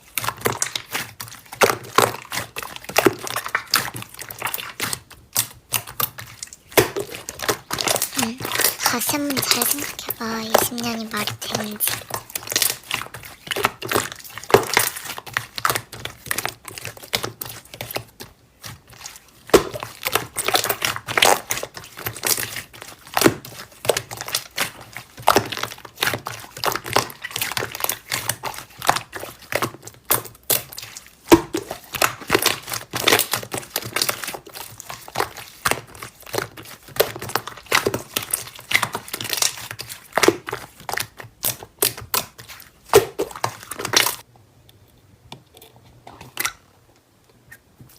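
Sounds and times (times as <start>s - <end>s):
slime squished by hand: 0.0s - 44.2s.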